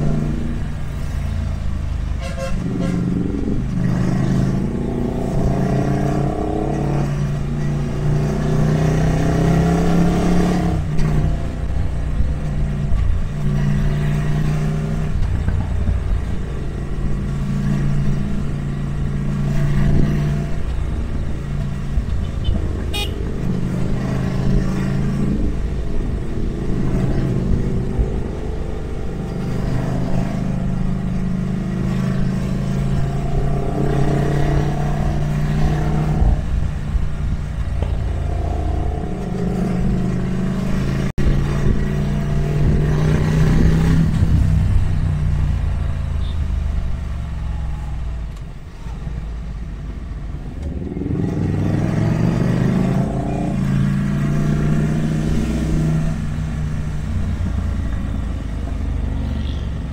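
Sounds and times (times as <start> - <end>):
motorcycle engine revving: 0.0 - 59.9
wind and road noise rumble: 0.0 - 59.9.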